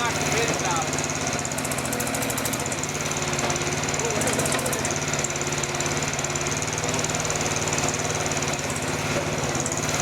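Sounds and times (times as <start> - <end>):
excavator engine running: 0.0 - 10.0.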